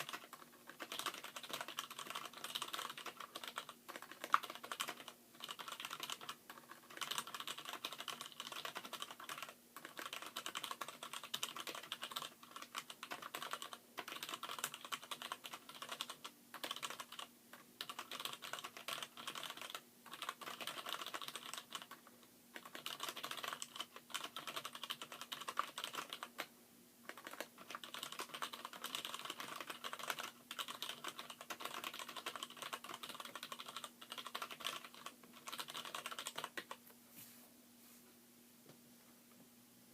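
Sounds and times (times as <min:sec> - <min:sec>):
mechanical keyboard typing: 0:00.0 - 0:26.5, 0:27.1 - 0:36.8.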